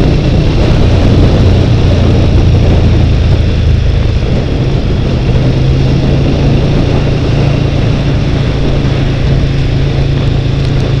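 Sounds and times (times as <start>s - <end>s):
motorcycle engine running: 0.0s - 11.0s
road noise: 0.0s - 11.0s
wind rush: 0.0s - 11.0s.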